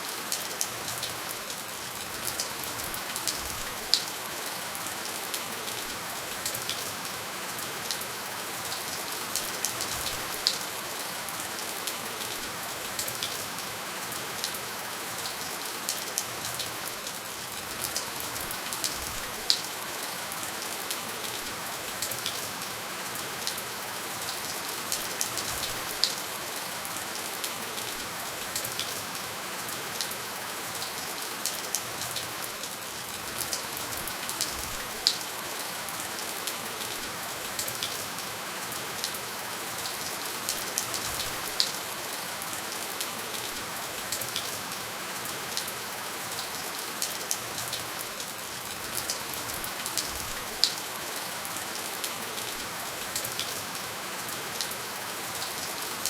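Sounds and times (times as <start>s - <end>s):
gentle rain: 0.0s - 56.0s
raindrops ticking on surface: 0.0s - 56.0s.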